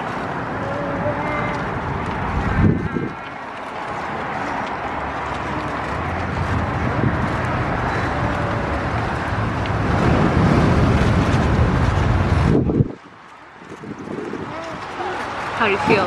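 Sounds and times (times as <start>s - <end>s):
wheels rolling on pavement: 0.0s - 16.0s
wind buffeting microphone: 0.0s - 16.0s.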